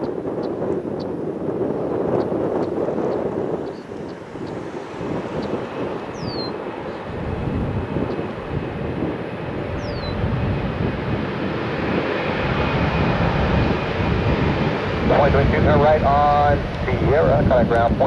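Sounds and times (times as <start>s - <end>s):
jet engines roaring on takeoff: 0.0s - 18.0s.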